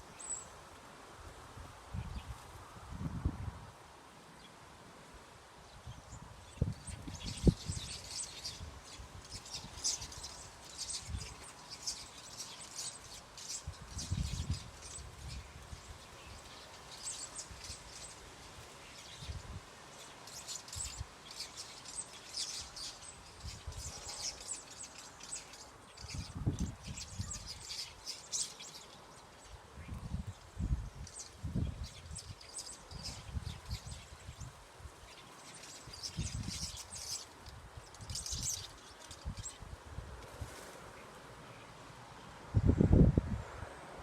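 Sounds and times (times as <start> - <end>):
small birds chirping: 0.0 - 0.6, 5.6 - 42.4.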